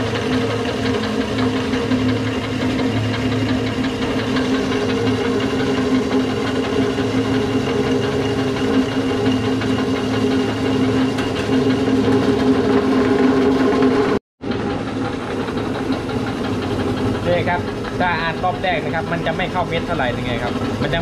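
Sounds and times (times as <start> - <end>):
pellet mill motor humming: 0.0 - 21.0.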